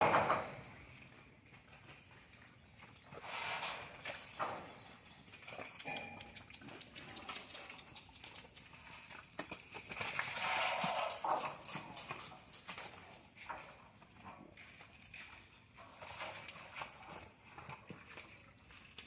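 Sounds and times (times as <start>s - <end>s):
hooves clopping on hard ground: 0.0s - 19.0s.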